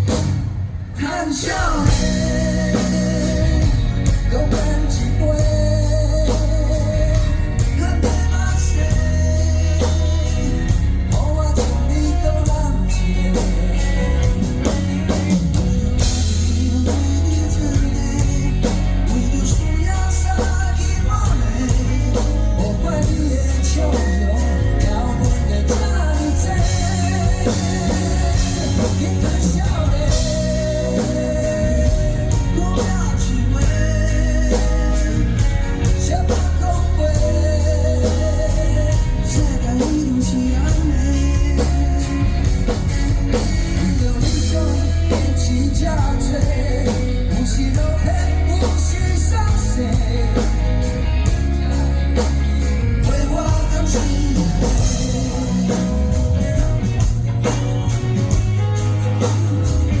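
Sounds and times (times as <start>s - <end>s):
bass: 0.0s - 60.0s
drum kit beat: 0.0s - 60.0s
electric guitar lead: 0.0s - 60.0s
live rock band playing: 0.0s - 60.0s.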